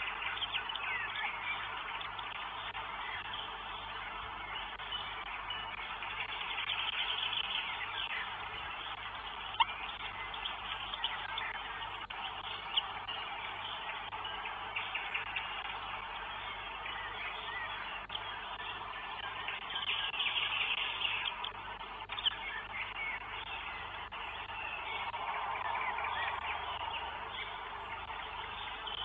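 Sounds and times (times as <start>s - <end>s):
bird chirps and calls: 0.0s - 29.0s.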